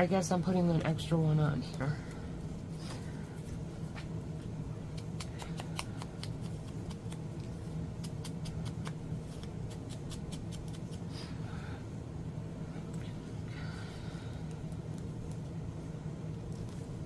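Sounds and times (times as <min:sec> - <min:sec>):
air conditioner hum: 0:00.0 - 0:17.0.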